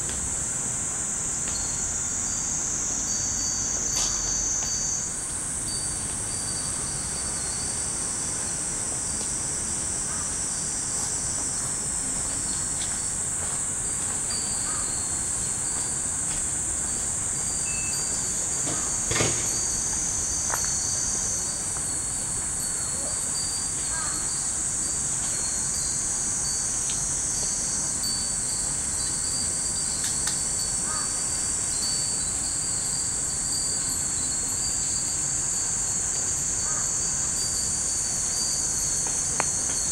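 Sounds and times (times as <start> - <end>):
cicadas chorus: 0.0 - 39.9
wind chimes ringing: 1.5 - 9.2, 13.8 - 39.9.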